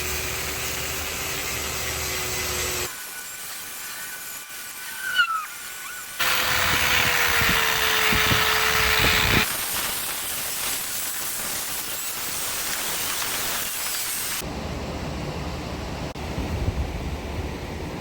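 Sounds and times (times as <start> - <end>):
power tool humming: 0.0 - 14.4.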